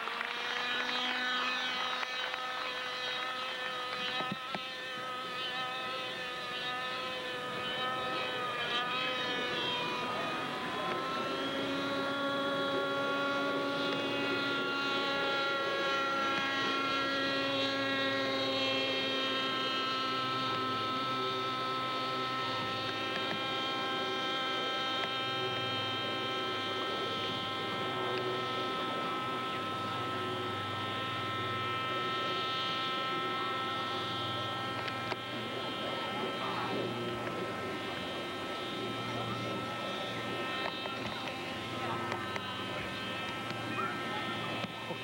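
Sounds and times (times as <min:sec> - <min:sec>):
model airplane engine buzzing: 0:00.0 - 0:45.0.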